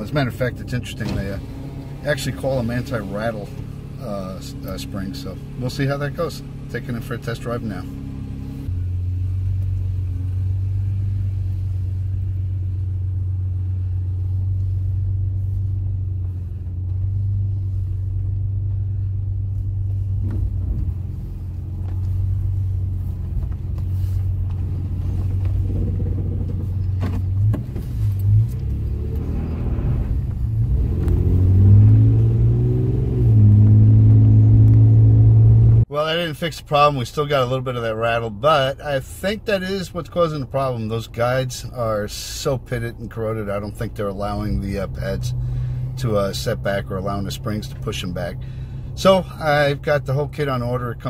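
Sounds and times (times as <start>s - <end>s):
engine and road drone: 0.0s - 51.0s.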